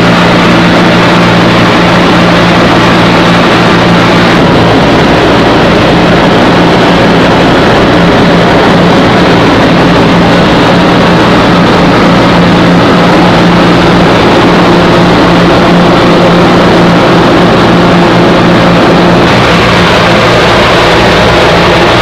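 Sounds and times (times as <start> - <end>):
aircraft engines droning: 0.0 - 22.0.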